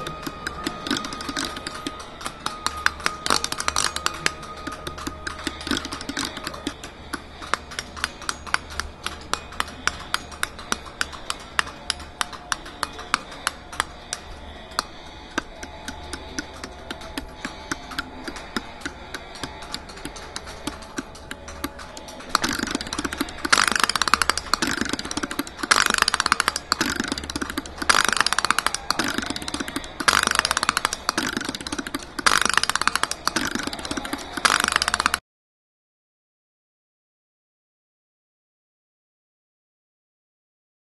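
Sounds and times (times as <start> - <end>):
relays clicking: 0.0 - 35.2.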